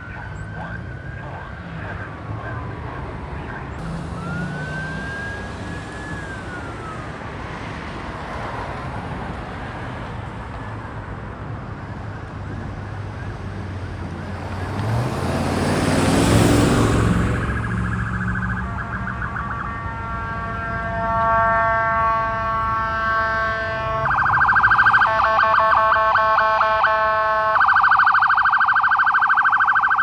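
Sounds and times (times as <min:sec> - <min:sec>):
ambulance siren wailing: 0:00.0 - 0:10.0, 0:13.2 - 0:30.0
vehicle and road noise: 0:00.0 - 0:30.0.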